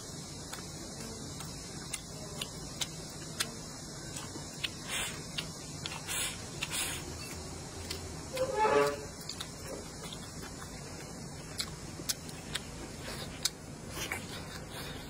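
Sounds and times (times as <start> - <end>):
chewing: 0.0 - 15.0
steady low hum: 0.0 - 15.0
mouth clicks and smacks: 0.3 - 7.0, 9.2 - 15.0.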